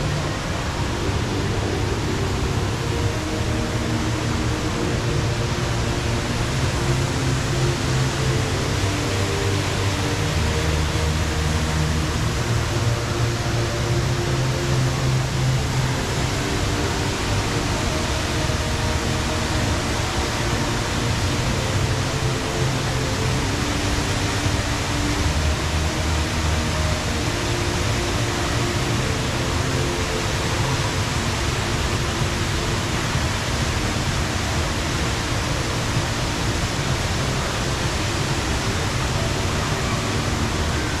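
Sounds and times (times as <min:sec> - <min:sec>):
indoor waterfall rushing: 0:00.0 - 0:41.0.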